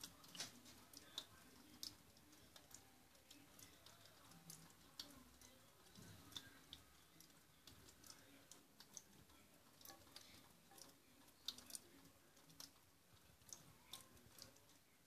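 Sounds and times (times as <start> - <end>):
water dripping in duct: 0.0 - 15.0.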